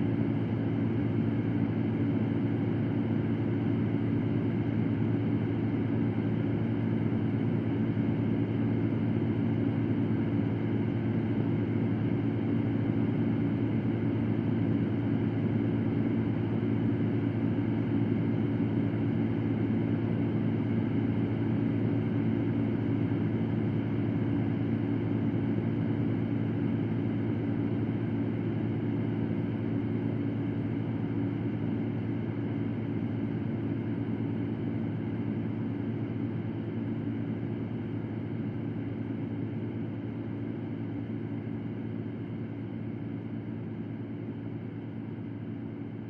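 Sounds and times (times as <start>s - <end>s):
electric fan running: 0.0s - 46.0s.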